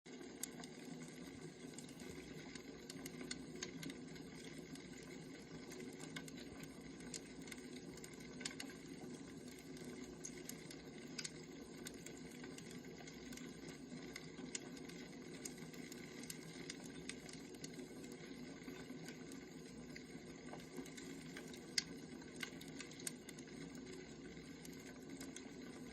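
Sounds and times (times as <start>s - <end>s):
wood fire crackling: 0.1s - 25.9s.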